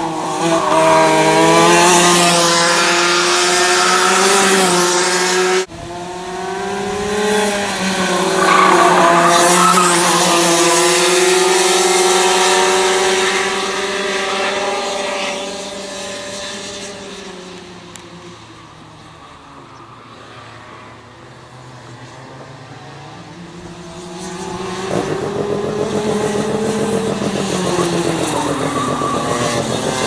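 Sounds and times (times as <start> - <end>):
go-kart engines revving: 0.0 - 19.3, 22.2 - 30.0.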